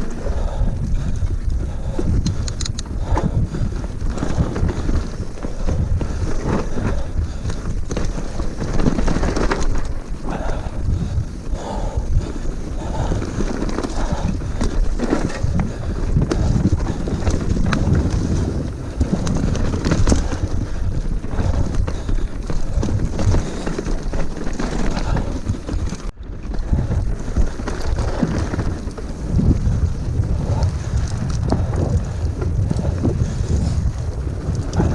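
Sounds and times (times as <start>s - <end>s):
bike rattling and knocking: 0.0s - 34.9s
bike tyre noise: 0.0s - 34.9s
wind rushing over microphone: 0.0s - 34.9s.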